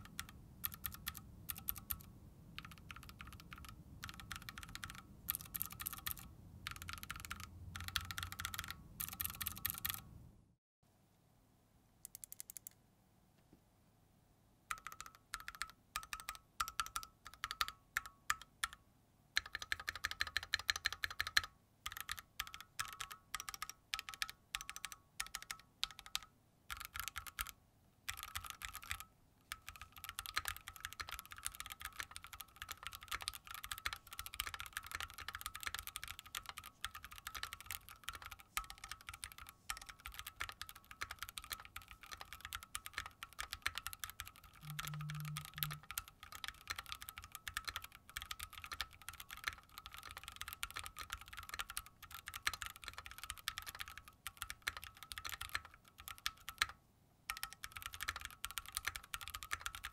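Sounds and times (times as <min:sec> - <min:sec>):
mechanical keyboard typing: 0:00.0 - 0:10.1, 0:12.0 - 0:12.8, 0:14.7 - 0:18.8, 0:19.4 - 0:59.9.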